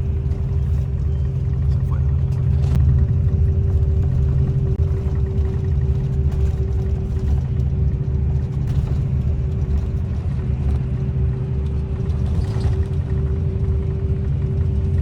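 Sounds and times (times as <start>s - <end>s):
droning hum: 0.0s - 15.0s
motor vehicle rumble: 0.0s - 15.0s.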